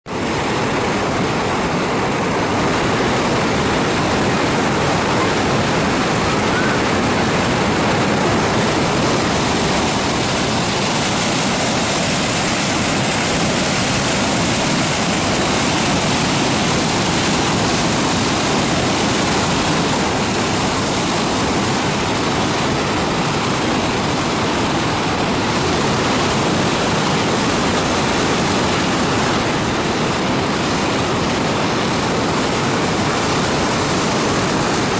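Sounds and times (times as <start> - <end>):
water rushing over a weir: 0.0 - 34.9.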